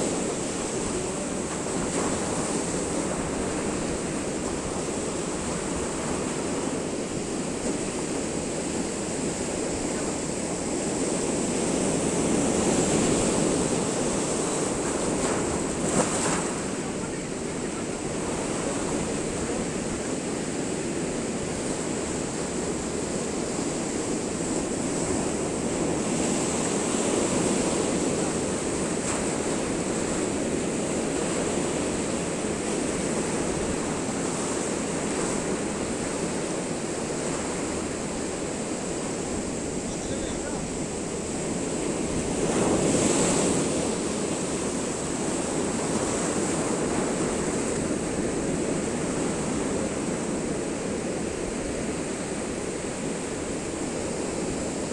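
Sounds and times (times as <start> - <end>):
surf washing over seawall: 0.0 - 54.9.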